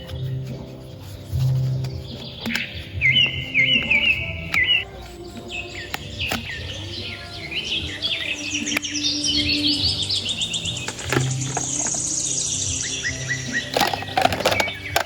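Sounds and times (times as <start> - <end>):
high bird-like chirps: 0.0 - 15.0.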